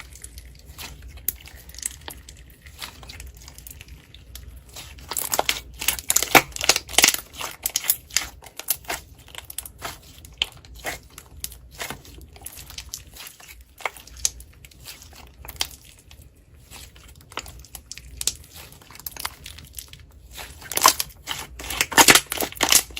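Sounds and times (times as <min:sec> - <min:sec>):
slime squeezed crackling and popping: 0:00.0 - 0:22.9.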